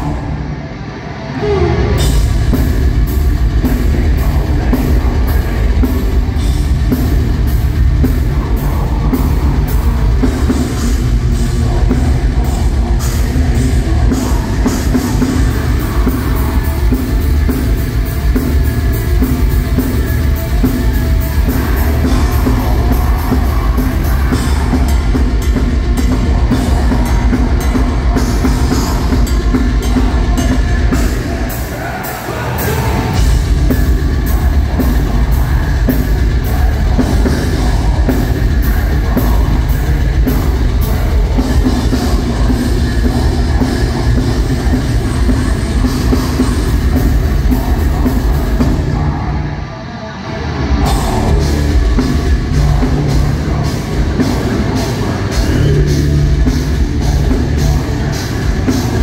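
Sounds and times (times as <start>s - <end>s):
heavy metal band playing live: 0.0s - 59.0s.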